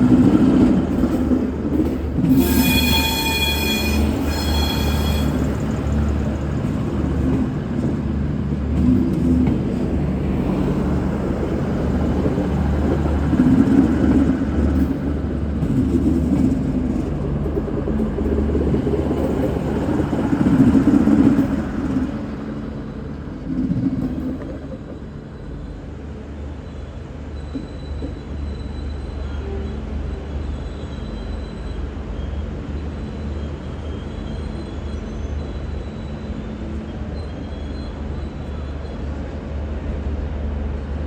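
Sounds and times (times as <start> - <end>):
diesel train engine rumble: 0.0 - 41.0.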